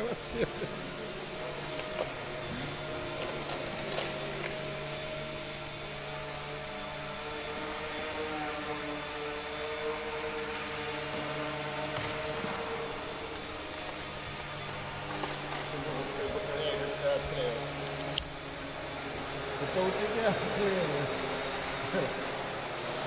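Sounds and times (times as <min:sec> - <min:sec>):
model airplane motor humming: 0:00.0 - 0:23.0.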